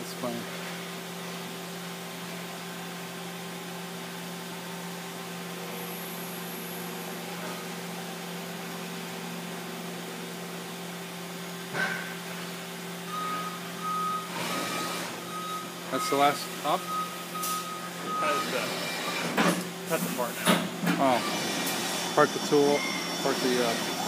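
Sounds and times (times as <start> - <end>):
machine hum with hiss: 0.0 - 24.0.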